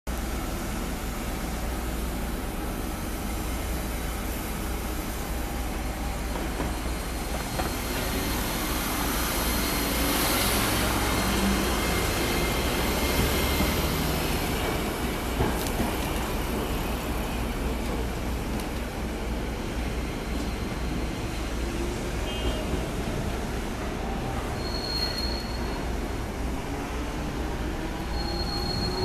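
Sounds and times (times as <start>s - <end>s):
tram passing on street track: 0.1s - 29.0s.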